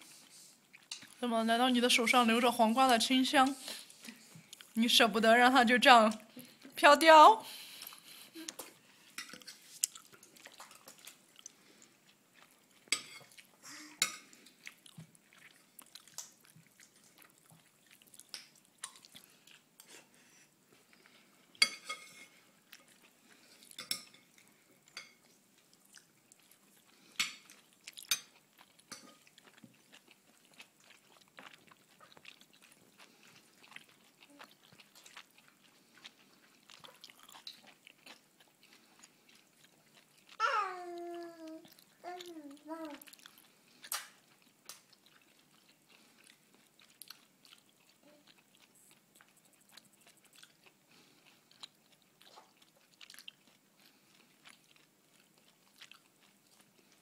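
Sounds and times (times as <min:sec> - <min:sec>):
baby mouth smacking and chewing: 0:07.9 - 0:11.6, 0:12.3 - 0:20.0, 0:22.7 - 0:57.0.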